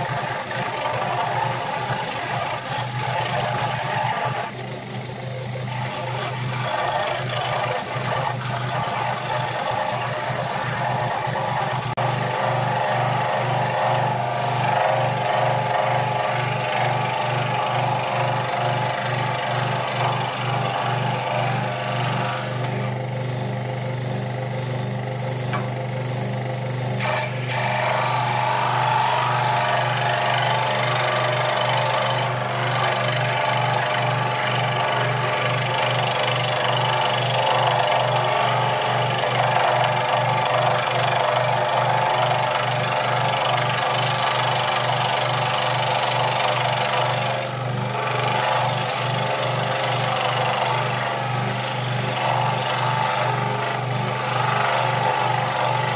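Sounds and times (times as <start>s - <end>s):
saw blade cutting wood: 0.0s - 55.9s
scroll saw running: 0.0s - 55.9s.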